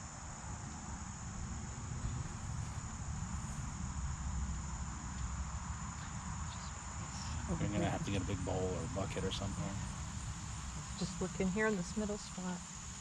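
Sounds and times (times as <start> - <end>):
insects trilling: 0.0 - 13.0
low rumble: 0.0 - 13.0.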